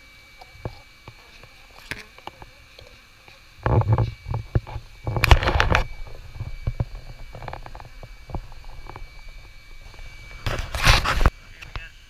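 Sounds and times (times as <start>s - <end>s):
rumbling crackling on microphone: 0.6s - 11.9s.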